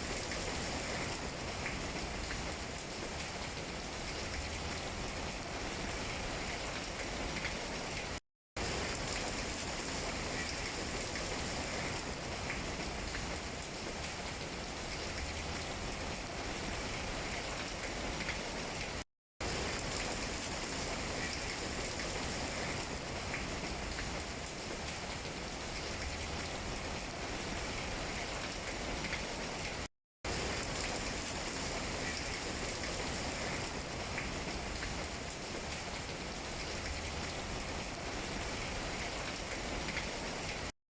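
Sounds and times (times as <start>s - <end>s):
rain pattering on leaves: 0.0s - 40.7s.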